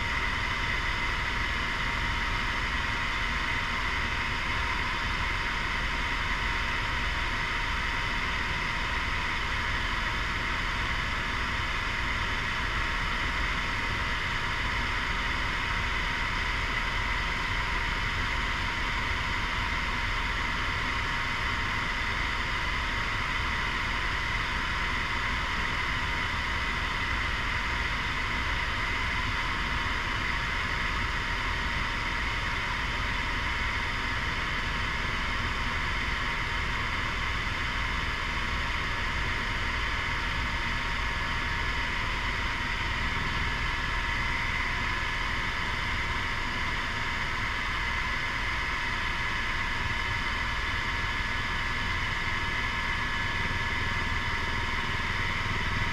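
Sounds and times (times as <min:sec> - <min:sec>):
helicopter rotor and engine drone: 0:00.0 - 0:55.9
thin steady whine: 0:00.0 - 0:55.9.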